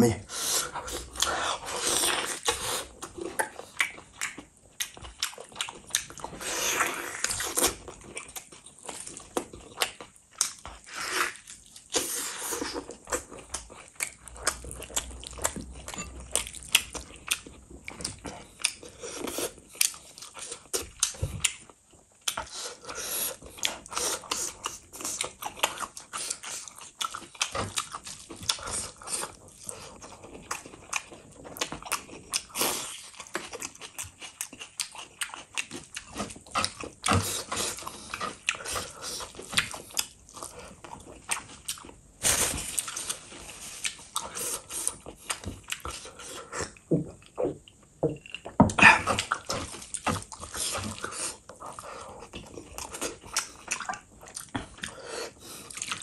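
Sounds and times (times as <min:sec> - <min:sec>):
person chewing food: 0:00.2 - 0:56.0.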